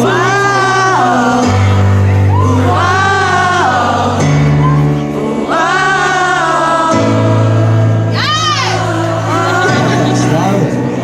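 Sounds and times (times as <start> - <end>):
audience chanting along: 0.0 - 11.0
live band playing slow song: 0.0 - 11.0
voices singing drawn-out melody: 0.0 - 11.0.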